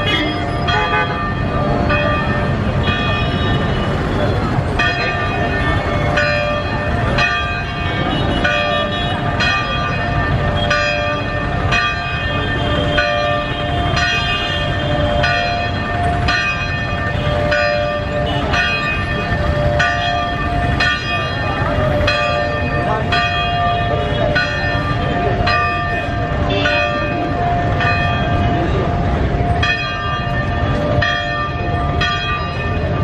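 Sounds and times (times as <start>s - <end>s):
church bells ringing: 0.0s - 33.0s
crowd noise: 0.0s - 33.0s.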